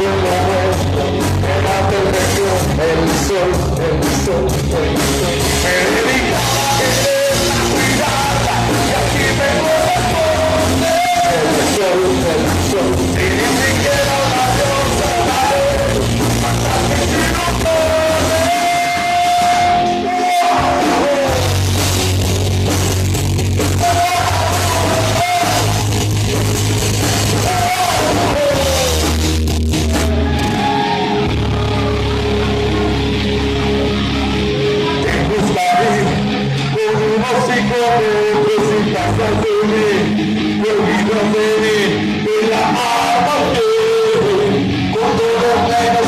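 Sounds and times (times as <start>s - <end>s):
bending lead guitar line: 0.0s - 46.0s
rock band through a pa: 0.0s - 46.0s.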